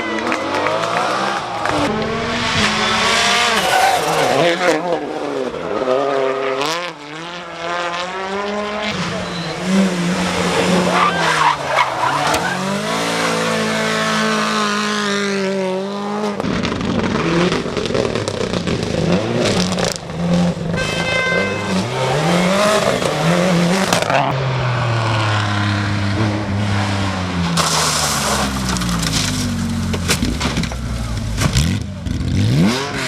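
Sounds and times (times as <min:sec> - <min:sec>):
rally car engines revving: 0:00.0 - 0:33.0
tyre noise on road: 0:00.0 - 0:33.0.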